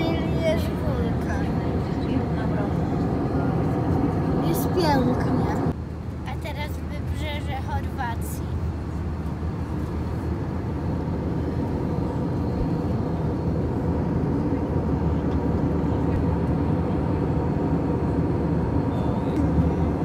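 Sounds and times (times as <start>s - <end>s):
airplane cabin engine rush: 0.0s - 20.0s.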